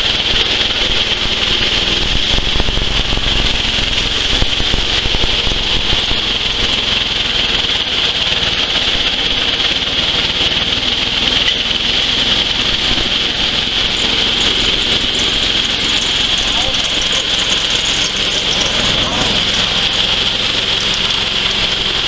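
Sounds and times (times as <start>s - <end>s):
coffee huller whirring: 0.0s - 22.0s.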